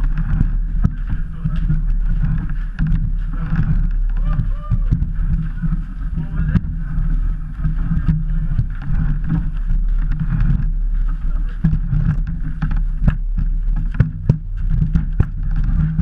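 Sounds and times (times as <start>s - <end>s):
bobsleigh runners rumbling on ice: 0.0s - 16.0s
sharp knocks and rattles: 0.0s - 16.0s.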